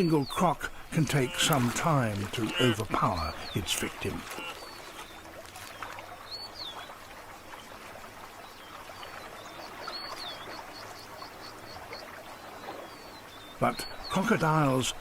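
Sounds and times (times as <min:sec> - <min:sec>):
birds calling: 0:00.0 - 0:15.0
river water flowing: 0:00.0 - 0:15.0.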